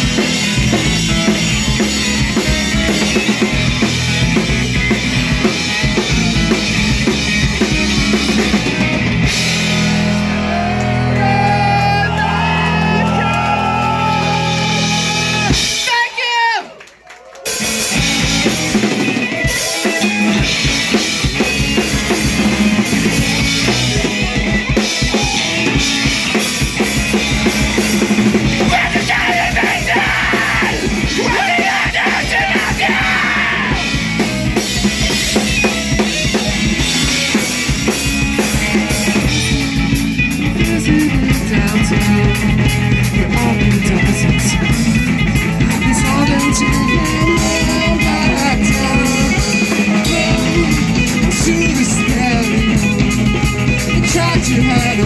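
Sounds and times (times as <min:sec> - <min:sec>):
electric guitars: 0:00.0 - 0:15.9, 0:17.3 - 0:55.0
bass guitar: 0:00.0 - 0:16.0, 0:17.3 - 0:55.0
drum kit: 0:00.0 - 0:16.2, 0:17.4 - 0:55.0.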